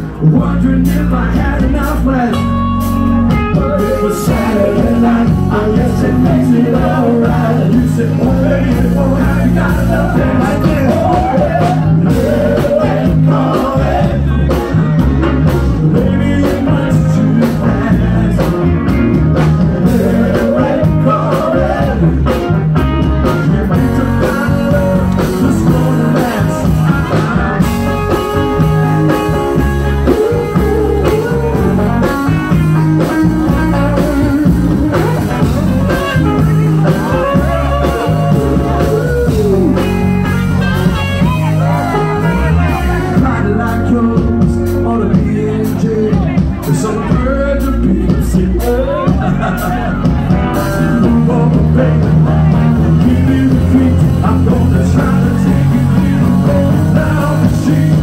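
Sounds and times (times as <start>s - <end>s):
drum and bass beat: 0.0s - 58.0s
electric guitar: 0.0s - 58.0s
person singing: 3.3s - 58.0s.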